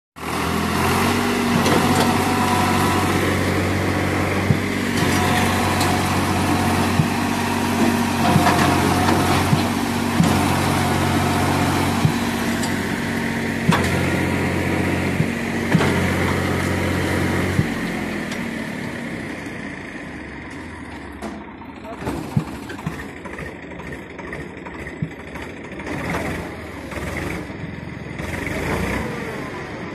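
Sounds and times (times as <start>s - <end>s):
tractor diesel engine under load: 0.2s - 29.9s.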